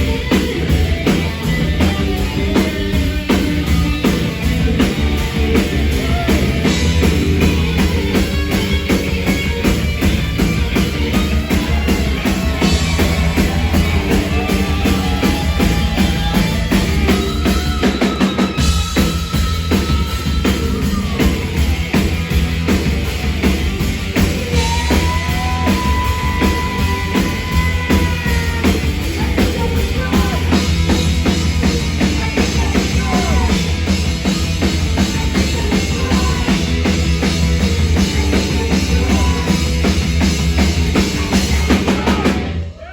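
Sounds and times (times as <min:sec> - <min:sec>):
live rock band playing: 0:00.0 - 0:42.8.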